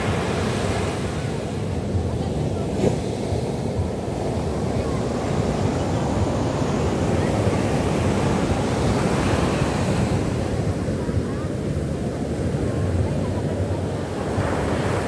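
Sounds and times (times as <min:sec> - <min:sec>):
ocean surf breaking on a beach: 0:00.0 - 0:15.0
wind rumbling on the microphone: 0:00.0 - 0:15.0.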